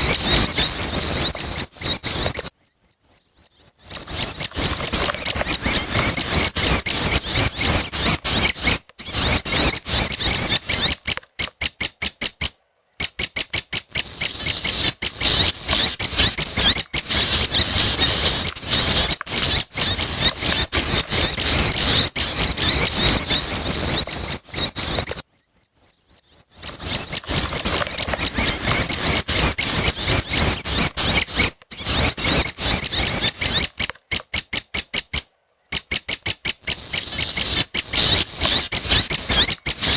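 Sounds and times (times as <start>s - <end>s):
young birds begging chirps: 0.0s - 39.9s.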